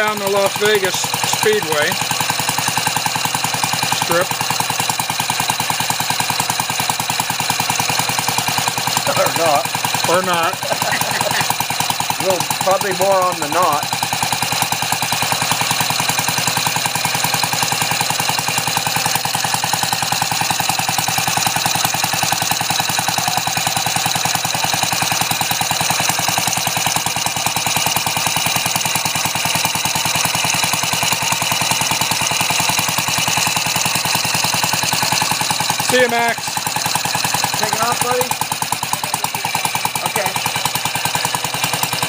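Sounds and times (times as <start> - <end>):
small engine running: 0.0 - 42.0.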